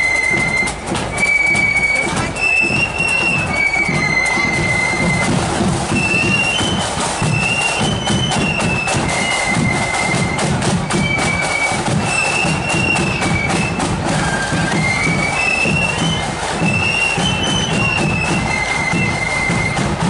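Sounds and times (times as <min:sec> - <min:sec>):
flutes playing melody: 0:00.0 - 0:20.0
snare and bass drums: 0:00.0 - 0:20.0.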